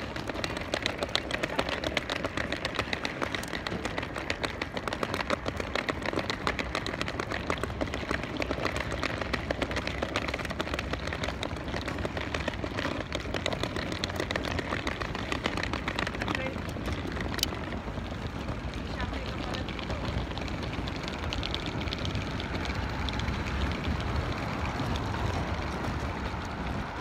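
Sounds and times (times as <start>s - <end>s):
road traffic hum: 0.0s - 27.0s
suitcase wheels clattering on paving: 0.0s - 27.0s.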